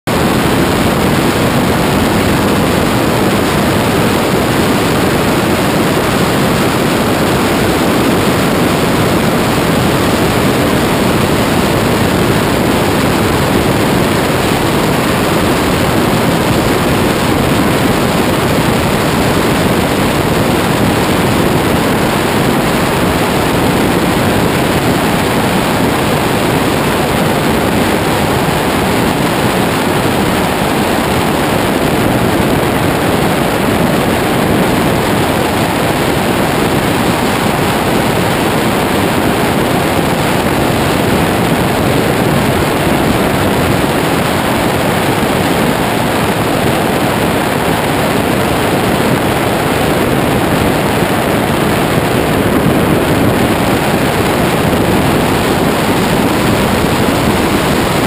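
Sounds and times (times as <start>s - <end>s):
wind rushing over microphone: 0.1s - 58.0s.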